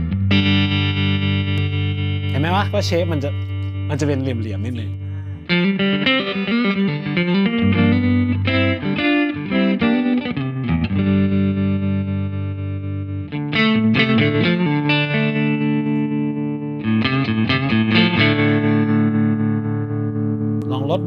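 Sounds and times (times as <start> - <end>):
electric guitar with tremolo: 0.0 - 21.0.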